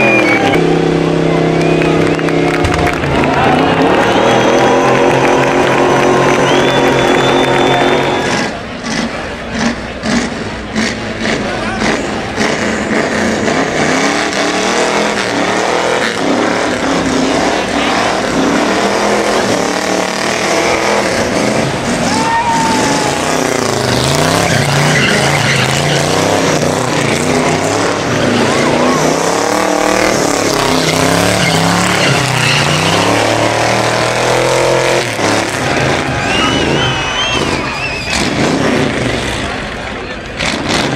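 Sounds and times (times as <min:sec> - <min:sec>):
car engine revving hard: 0:00.0 - 0:40.9.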